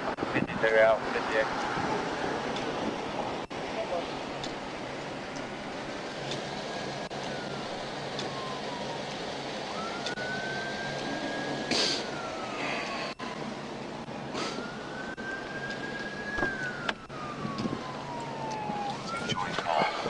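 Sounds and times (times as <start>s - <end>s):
roadside noise: 0.0s - 20.0s
police siren wailing: 1.4s - 20.0s.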